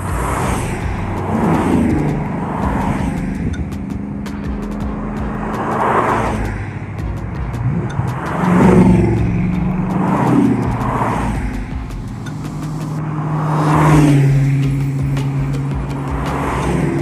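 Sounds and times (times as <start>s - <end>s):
car engine running: 0.0s - 17.0s
road noise rushing: 0.0s - 17.0s.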